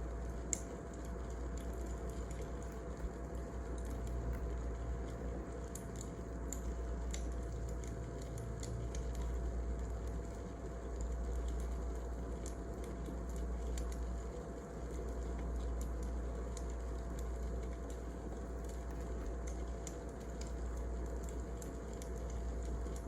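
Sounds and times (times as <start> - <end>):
faint steady hum: 0.0 - 23.0
wood fire crackling: 0.0 - 23.0.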